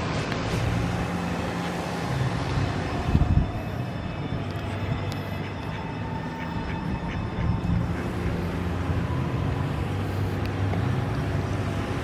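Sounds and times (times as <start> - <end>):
engine hum: 0.0 - 12.0
low rumble of motor traffic: 0.0 - 12.0.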